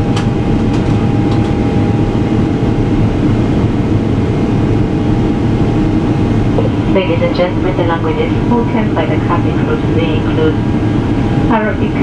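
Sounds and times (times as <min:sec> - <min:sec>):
airliner cabin engine noise: 0:00.0 - 0:12.0
faint steady hum: 0:00.4 - 0:12.0.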